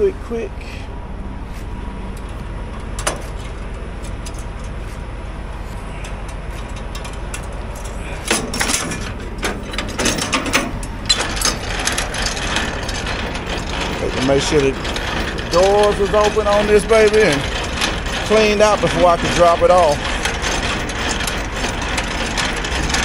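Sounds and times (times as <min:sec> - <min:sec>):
truck engine idling: 0:00.0 - 0:23.0
metallic clicks and clanks: 0:02.1 - 0:04.9, 0:05.9 - 0:23.0.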